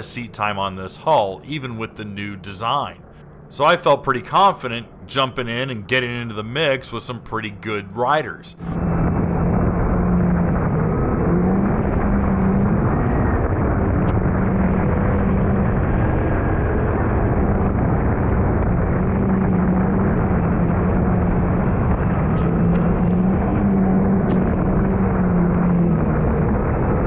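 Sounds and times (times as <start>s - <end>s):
personal watercraft engine drone: 0.0s - 27.0s.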